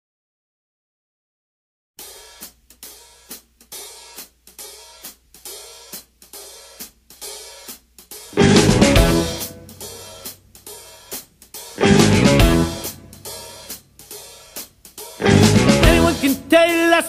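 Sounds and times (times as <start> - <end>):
cymbal played in steady rhythm: 2.0 - 17.0.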